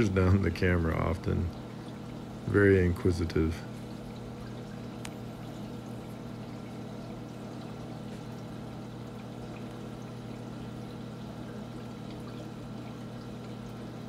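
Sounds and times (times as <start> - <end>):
low pump hum: 0.0 - 14.0
water pouring into sump: 0.0 - 14.0.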